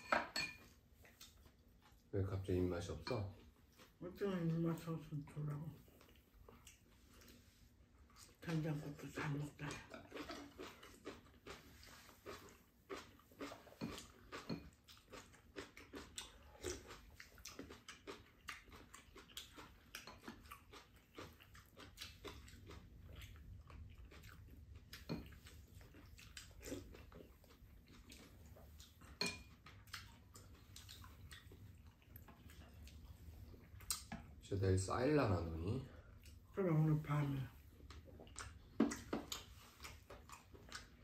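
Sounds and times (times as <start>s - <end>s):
people chewing: 0.6s - 41.0s.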